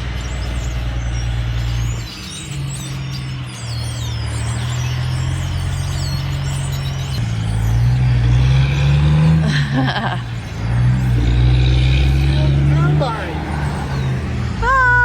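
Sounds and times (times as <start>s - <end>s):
birds chirping: 0.0s - 15.0s
vehicle engine running: 0.0s - 15.0s.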